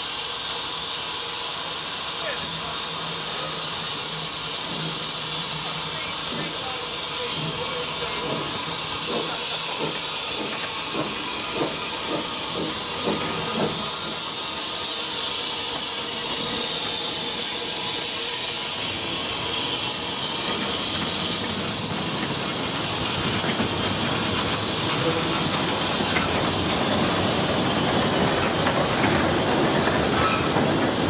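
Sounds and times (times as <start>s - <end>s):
steam locomotive hissing: 0.0s - 31.0s.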